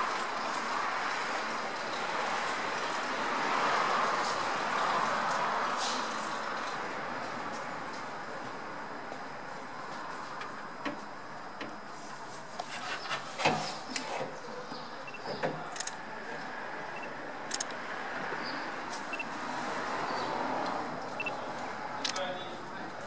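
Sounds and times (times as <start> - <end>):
workshop background noise: 0.0 - 23.0.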